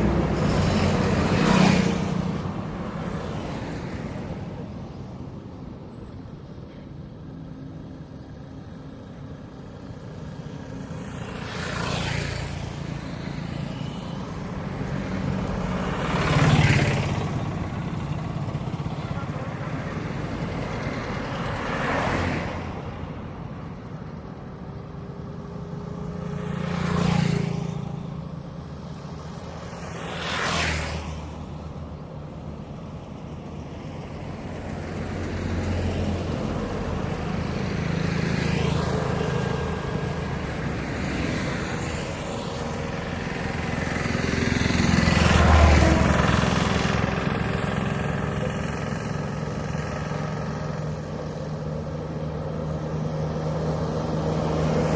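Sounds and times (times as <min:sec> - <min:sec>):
vehicles passing: 0:00.0 - 0:54.9.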